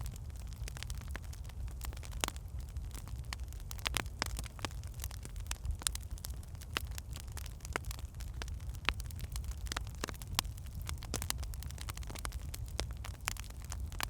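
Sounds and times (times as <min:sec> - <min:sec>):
fire crackling and popping: 0:00.0 - 0:14.0
low fire rumble: 0:00.0 - 0:14.0.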